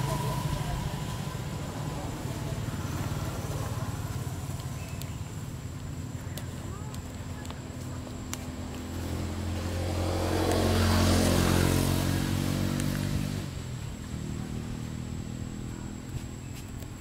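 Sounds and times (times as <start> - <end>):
vehicle engine passing by: 0.0 - 5.7, 7.8 - 16.6.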